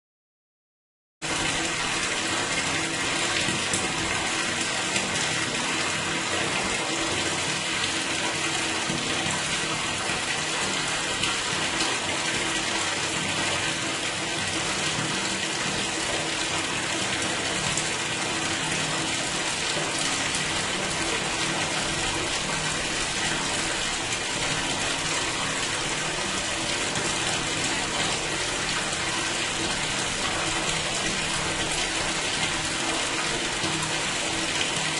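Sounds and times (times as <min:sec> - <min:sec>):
water rushing in a sewer: 0:01.2 - 0:34.9.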